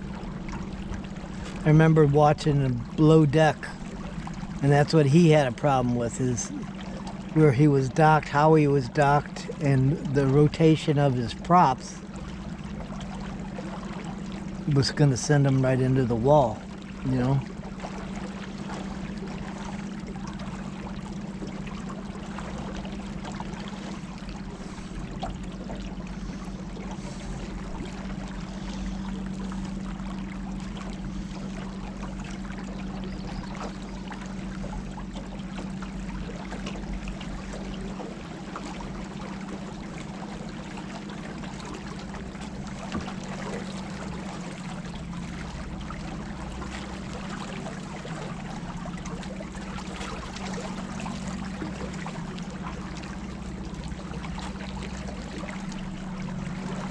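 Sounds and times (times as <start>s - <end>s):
river water rushing against boat: 0.0s - 56.9s
steady low hum: 0.0s - 56.9s.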